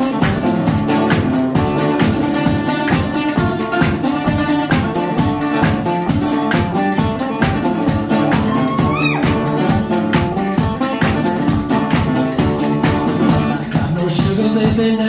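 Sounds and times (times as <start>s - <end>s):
electric guitar: 0.0s - 15.0s
steady drum beat: 0.0s - 15.0s.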